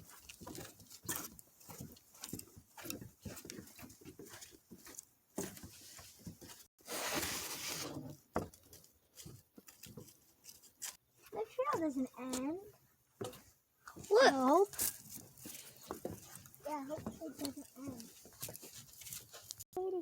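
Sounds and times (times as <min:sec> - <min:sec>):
footsteps on a trail: 0:00.0 - 0:19.6.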